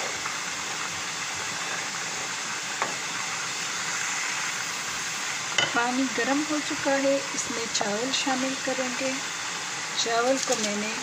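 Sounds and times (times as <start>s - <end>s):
pot of water hissing: 0.0s - 11.0s.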